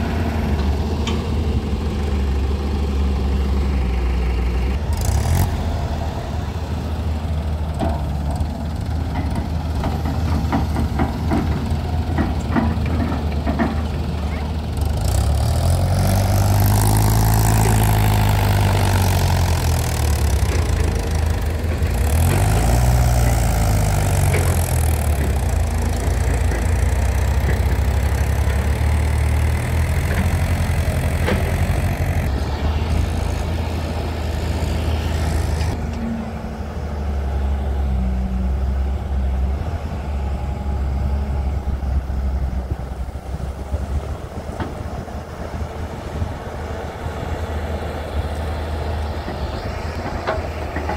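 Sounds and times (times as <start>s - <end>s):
excavator diesel engine running: 0.0s - 50.9s
tractor diesel engine revving: 0.0s - 50.9s.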